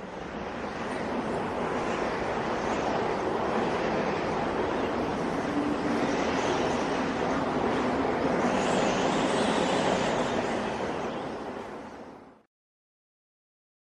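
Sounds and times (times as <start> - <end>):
steady rushing noise: 0.0 - 12.5.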